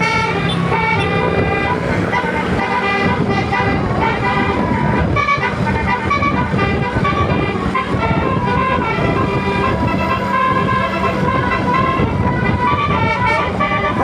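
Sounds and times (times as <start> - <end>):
bus horn playing melody: 0.0 - 14.0.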